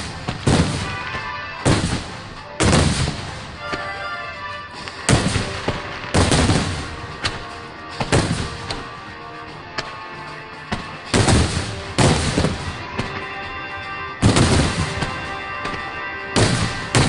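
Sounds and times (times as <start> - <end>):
fireworks bangs with echo: 0.0 - 9.0, 10.7 - 17.0.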